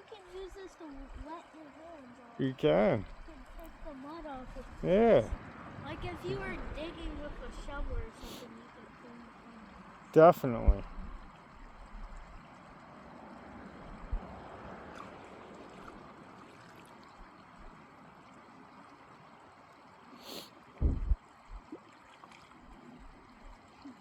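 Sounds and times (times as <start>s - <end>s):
lake water lapping at shore: 0.0s - 24.0s.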